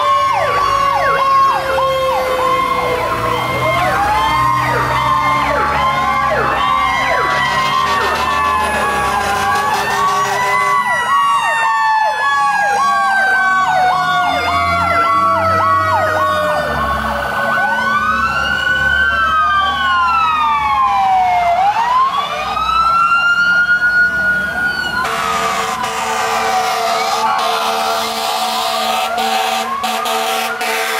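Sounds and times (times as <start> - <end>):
fire truck sirens: 0.0 - 30.9
truck engines rumbling: 0.0 - 30.9.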